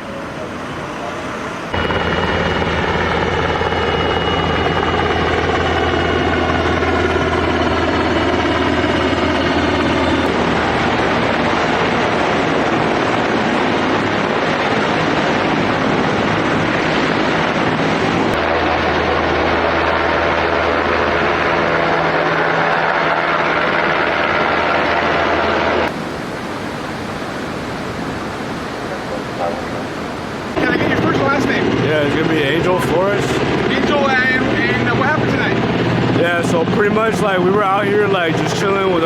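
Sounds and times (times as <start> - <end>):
helicopter rotor and turbine: 0.0 - 39.0.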